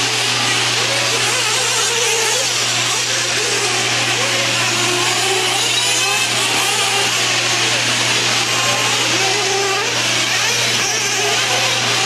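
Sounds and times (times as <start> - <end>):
small engines revving with buzzing whine: 0.0 - 12.0.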